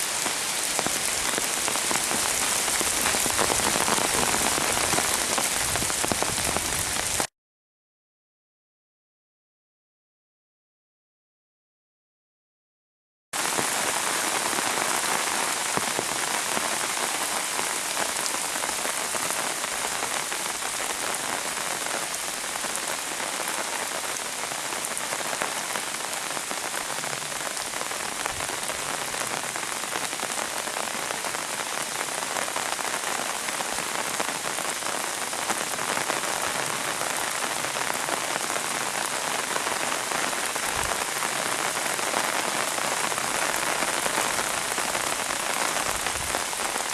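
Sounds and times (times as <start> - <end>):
pouring rain: 0.0 - 7.3, 13.4 - 46.9.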